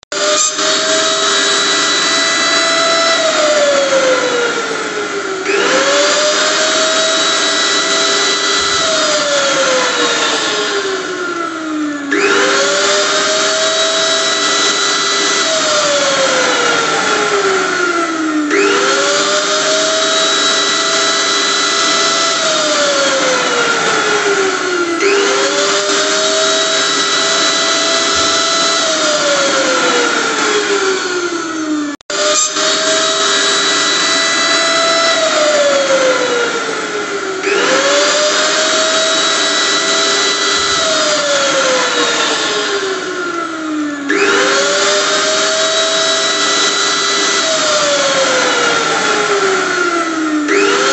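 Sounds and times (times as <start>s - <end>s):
electric blender motor whining: 0.0s - 50.9s.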